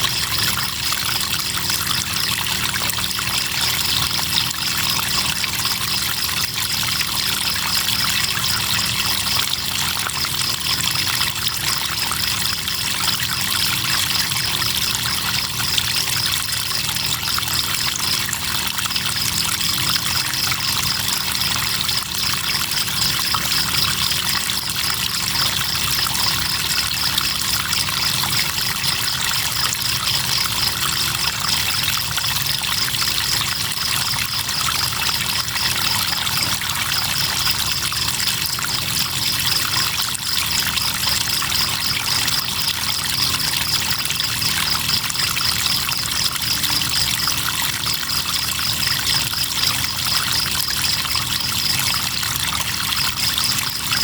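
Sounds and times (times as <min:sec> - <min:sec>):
crickets chirping: 0:00.0 - 0:54.0
river water trickling: 0:00.0 - 0:54.0.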